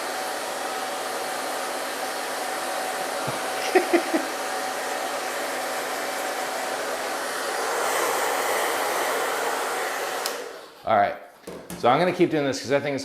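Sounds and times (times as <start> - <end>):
hair dryer running: 0.0 - 10.8.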